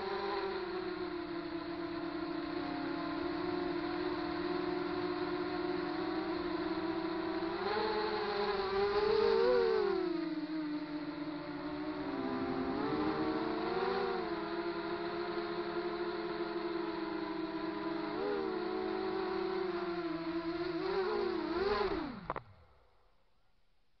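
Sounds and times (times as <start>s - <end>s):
quadcopter motors whining: 0.0s - 22.8s.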